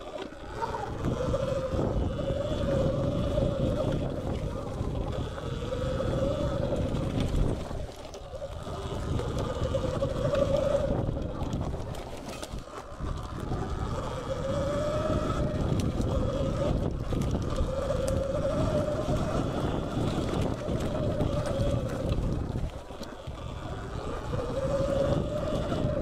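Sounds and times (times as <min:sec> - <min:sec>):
electric dirt bike motor whine: 0:00.0 - 0:26.0
wind on microphone: 0:00.0 - 0:26.0.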